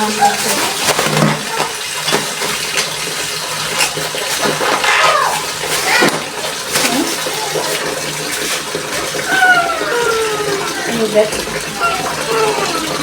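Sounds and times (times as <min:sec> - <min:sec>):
water running from tap: 0:00.0 - 0:13.0.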